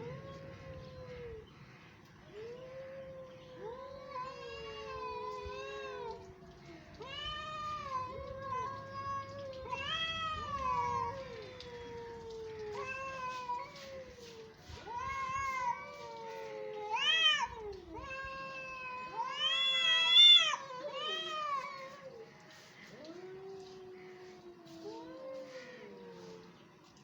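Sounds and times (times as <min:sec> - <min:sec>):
cats yowling: 0:00.0 - 0:01.6, 0:02.2 - 0:26.6.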